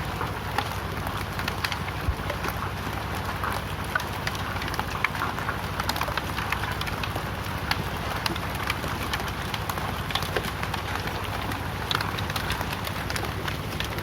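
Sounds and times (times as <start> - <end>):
hailstones ticking: 0.0 - 14.0.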